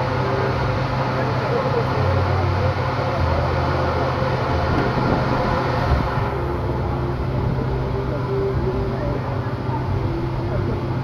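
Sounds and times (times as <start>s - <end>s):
distant voices: 0.0s - 11.0s
low machinery hum: 0.0s - 11.0s.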